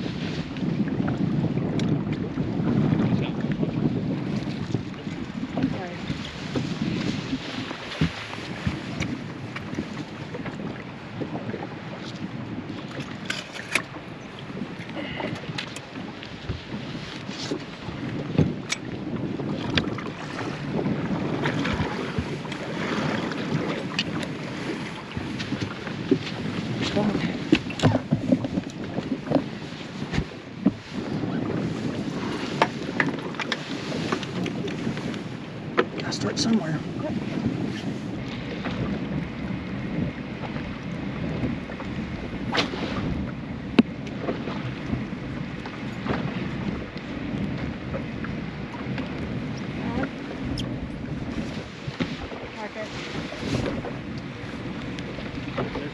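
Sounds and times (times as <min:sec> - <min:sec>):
water slapping against hull: 0:00.0 - 0:55.9
wind buffeting microphone: 0:00.0 - 0:55.9.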